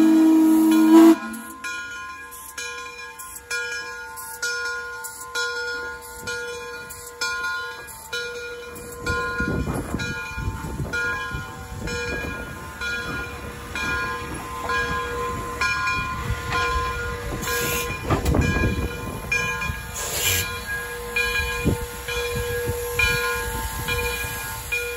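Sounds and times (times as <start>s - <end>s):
steam hissing: 0.0s - 3.6s, 6.1s - 24.9s
steam locomotive exhaust chuffs: 0.0s - 24.9s.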